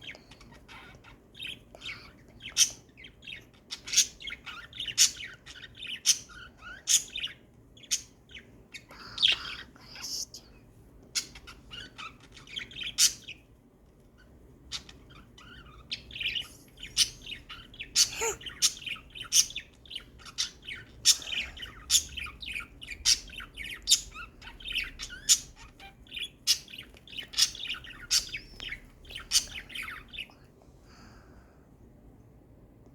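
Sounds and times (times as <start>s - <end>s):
small birds chirping and squawking: 0.0s - 30.6s.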